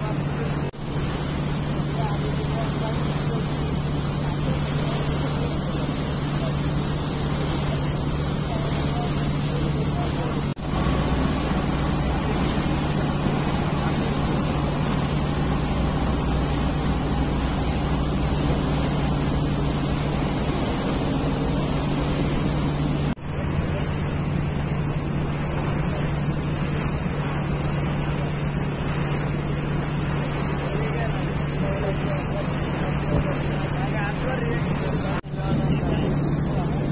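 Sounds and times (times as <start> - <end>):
boat engine drone: 0.0 - 36.9
rushing water: 0.0 - 36.9.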